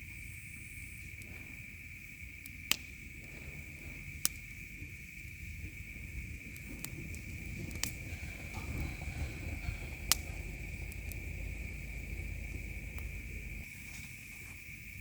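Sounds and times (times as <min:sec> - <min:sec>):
campfire crackling and popping: 0:00.0 - 0:15.0
insects droning: 0:00.0 - 0:15.0.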